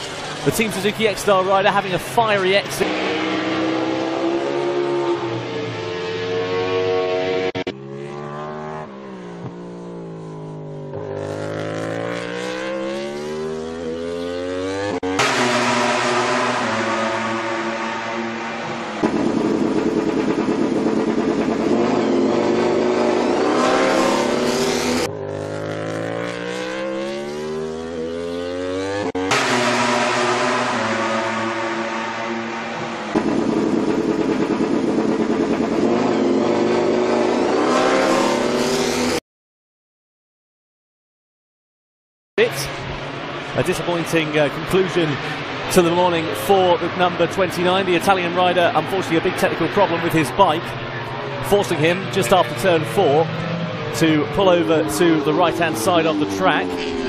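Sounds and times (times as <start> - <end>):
racing motorcycle engine revving: 0.0 - 39.2, 42.4 - 57.0.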